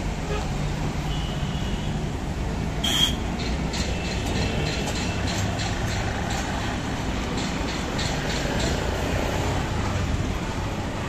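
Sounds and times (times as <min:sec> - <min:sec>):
heavy traffic rumble: 0:00.0 - 0:11.0.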